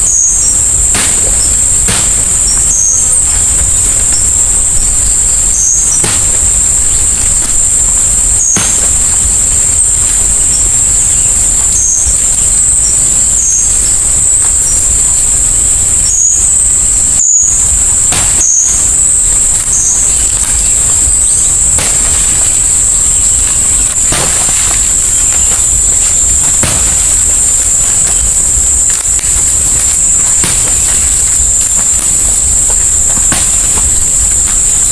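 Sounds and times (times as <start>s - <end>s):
high-pitched insect chorus: 0.0s - 34.9s
rain hissing: 0.0s - 34.9s.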